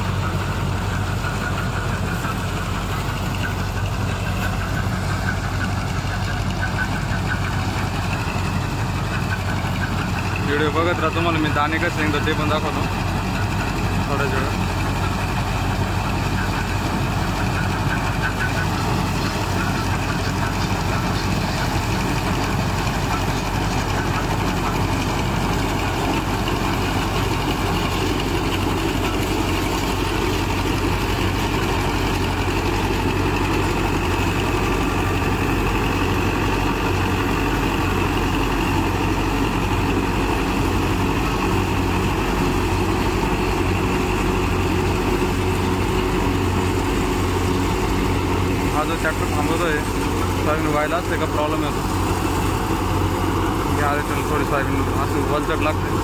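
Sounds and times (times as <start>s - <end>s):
tractor and harvester mechanical drone: 0.0s - 56.0s.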